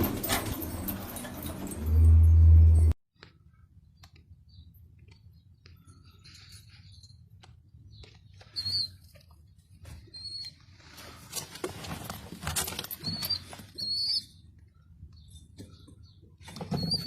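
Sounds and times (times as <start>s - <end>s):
pigeons clicking and scratching: 0.0s - 2.0s, 4.0s - 17.0s.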